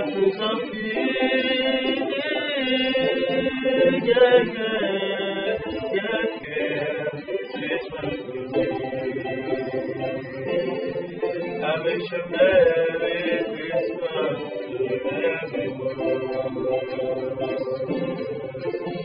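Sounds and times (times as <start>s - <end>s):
electronic keyboard chords: 0.0s - 19.0s
person singing: 0.0s - 19.0s.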